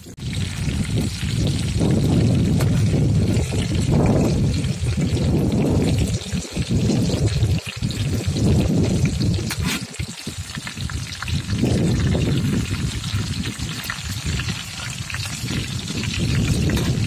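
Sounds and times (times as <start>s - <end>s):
fish sizzling in hot oil: 0.0s - 17.0s
steady low rumble: 0.2s - 9.6s, 10.4s - 17.0s.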